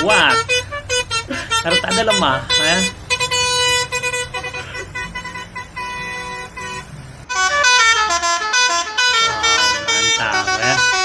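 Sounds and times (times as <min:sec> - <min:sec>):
truck air horn playing a tune: 0:00.0 - 0:11.0.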